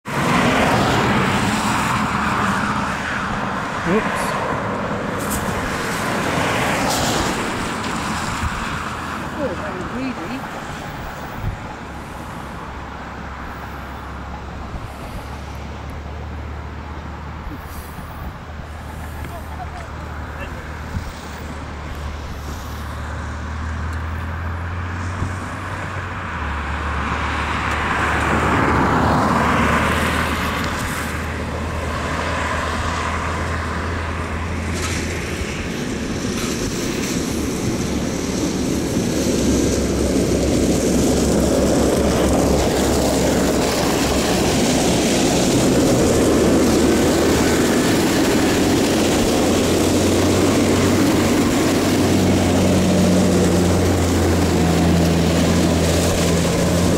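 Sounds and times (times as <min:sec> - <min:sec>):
louder engine sound: 0:00.0 - 0:56.9
low engine hum: 0:00.0 - 0:56.9
vehicle passing: 0:00.0 - 0:56.9.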